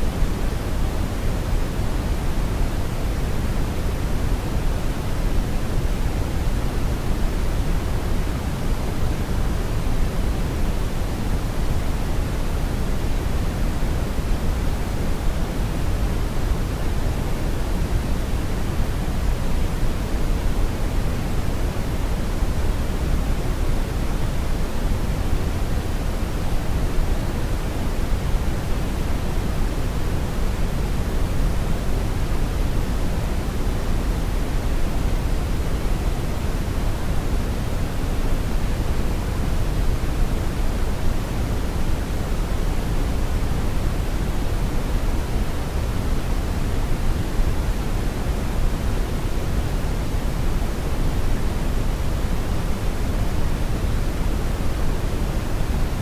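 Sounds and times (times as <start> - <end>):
brown noise rushing hiss: 0.0 - 56.0.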